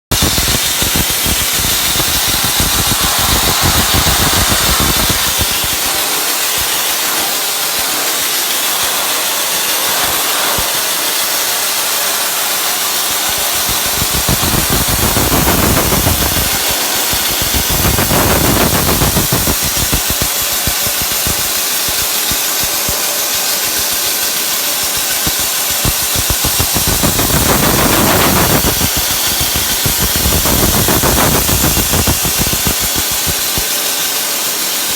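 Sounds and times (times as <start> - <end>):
dry ice blaster hissing: 0.1 - 34.9.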